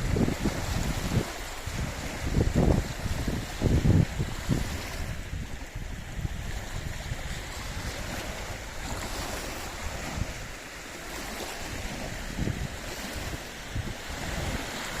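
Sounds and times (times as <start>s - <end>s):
lake waves washing: 0.0s - 15.0s
wind buffeting microphone: 0.0s - 15.0s.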